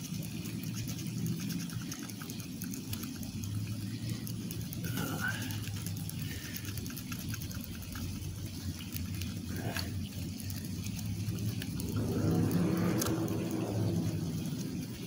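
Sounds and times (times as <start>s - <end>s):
scratching lottery ticket: 0.0s - 14.0s
low background rumble: 0.0s - 15.0s.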